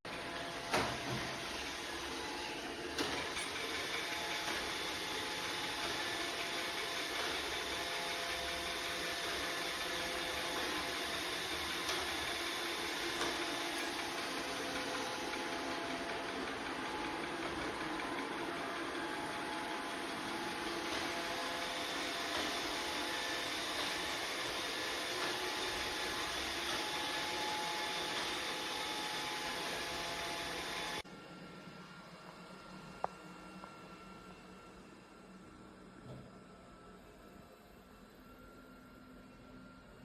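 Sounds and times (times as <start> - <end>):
robot vacuum humming: 0.1 - 39.8.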